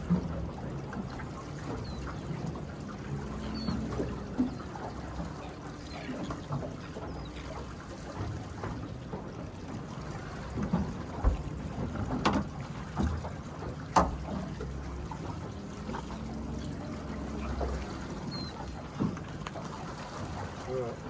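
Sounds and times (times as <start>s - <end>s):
water lapping around a boat: 0.0s - 21.0s.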